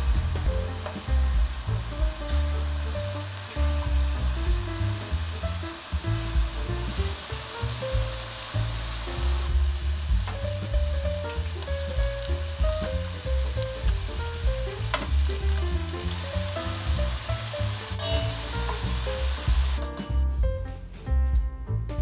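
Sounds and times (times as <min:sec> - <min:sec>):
potatoes sizzling in hot oil: 0:00.0 - 0:19.9.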